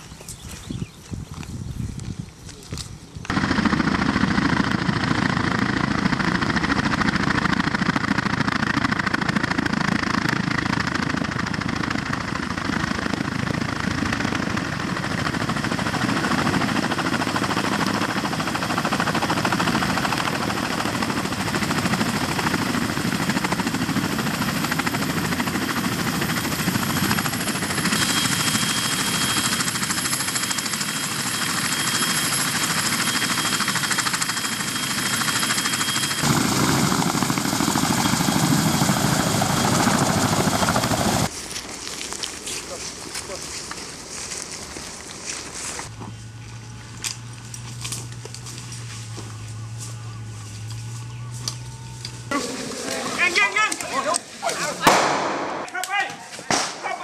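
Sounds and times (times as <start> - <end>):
helicopter rotor and engine noise: 0.0 - 43.4, 44.0 - 57.0
high turbine whine: 2.8 - 55.8.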